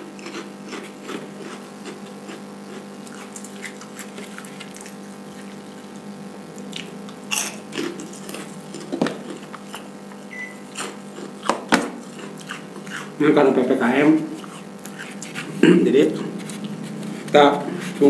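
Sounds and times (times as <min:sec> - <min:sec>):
man chewing food: 0:00.0 - 0:13.2, 0:14.2 - 0:18.0
steady low hum: 0:00.0 - 0:18.0.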